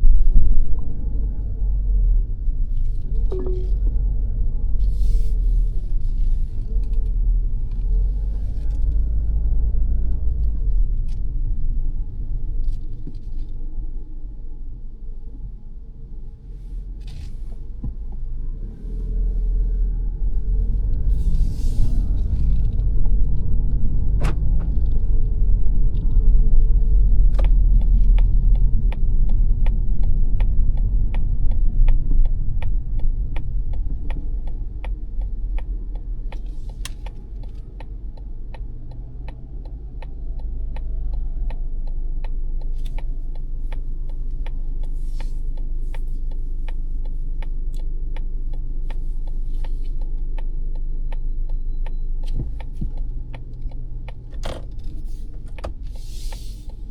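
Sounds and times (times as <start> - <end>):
low road rumble: 0.0 - 56.9
turn signal ticking: 0.0 - 56.9.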